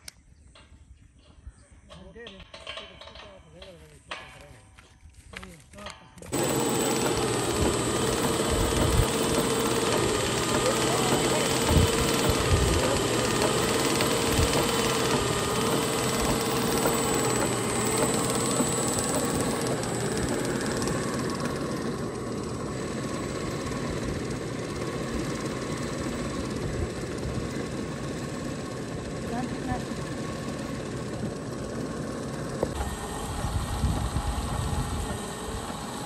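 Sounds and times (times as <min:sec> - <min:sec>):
electric motor humming and whirring: 0:05.4 - 0:36.0
wavering whine: 0:06.2 - 0:36.0.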